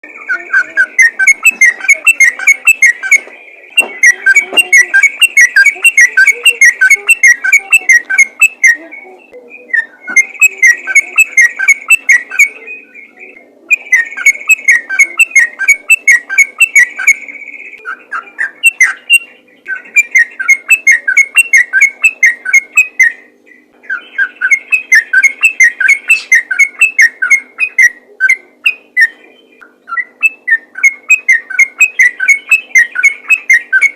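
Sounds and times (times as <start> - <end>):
bird singing whistled notes: 0.1 - 33.9.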